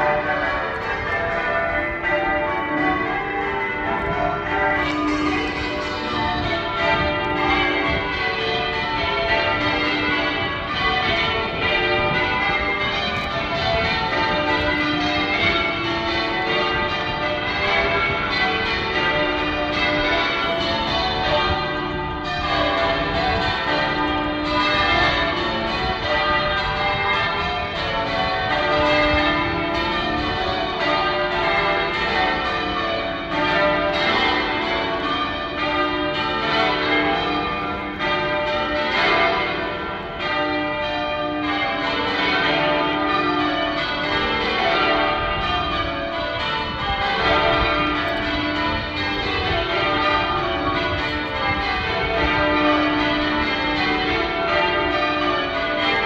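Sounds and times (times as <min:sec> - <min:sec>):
church bells change ringing: 0:00.0 - 0:56.0.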